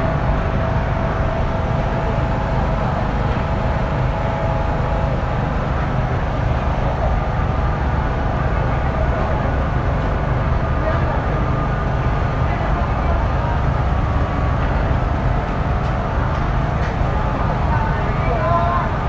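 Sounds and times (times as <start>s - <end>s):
constant hum: 0.0s - 19.0s
low mechanical rumble: 0.0s - 19.0s.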